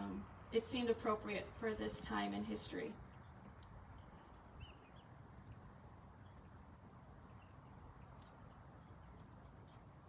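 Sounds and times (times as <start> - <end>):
insects chirring: 1.4 - 10.0.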